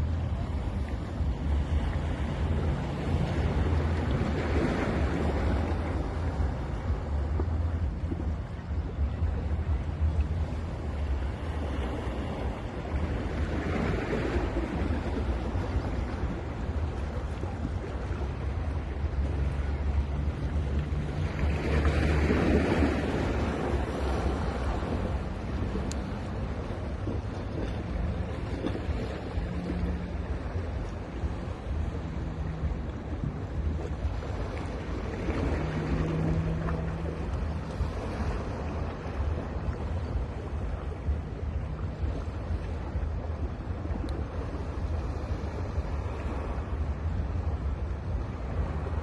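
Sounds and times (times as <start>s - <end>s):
sea waves breaking on beach: 0.0s - 49.0s
wind rumble on microphone: 0.0s - 49.0s.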